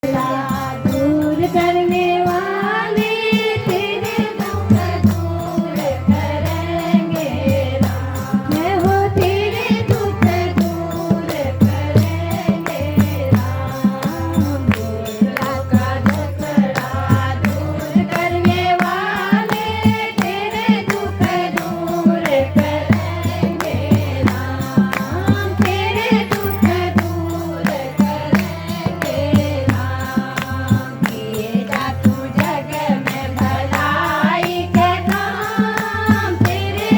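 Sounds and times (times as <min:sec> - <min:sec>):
steady percussion beat: 0:00.0 - 0:36.9
woman singing: 0:00.0 - 0:36.9.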